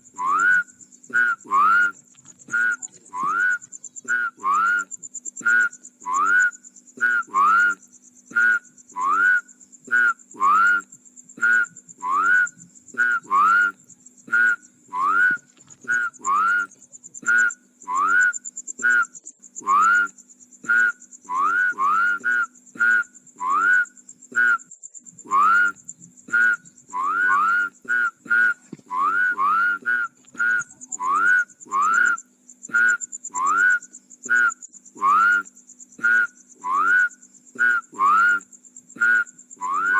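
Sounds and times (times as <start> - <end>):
frogs calling: 0.0 - 39.9
steady high-pitched buzz: 0.0 - 39.9.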